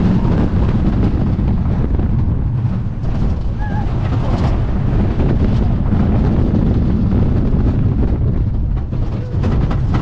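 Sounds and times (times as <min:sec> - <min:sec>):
roller coaster train rumbling: 0:00.0 - 0:10.0
wind rushing over microphone: 0:00.0 - 0:10.0.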